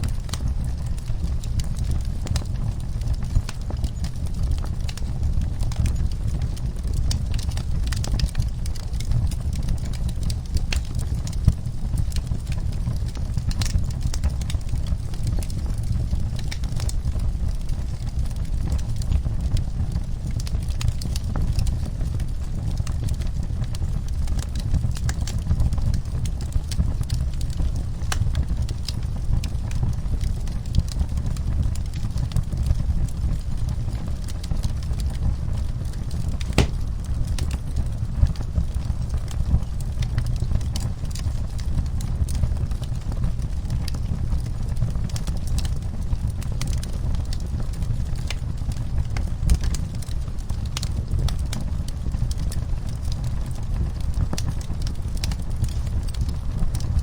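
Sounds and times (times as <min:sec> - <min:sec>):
low rumble of flames: 0:00.0 - 0:57.0
wood fire crackling and popping: 0:00.1 - 0:57.0.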